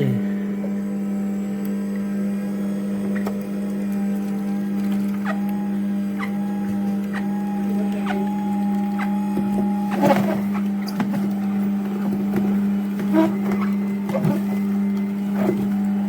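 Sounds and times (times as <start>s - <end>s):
juicer motor humming: 0.0s - 16.0s.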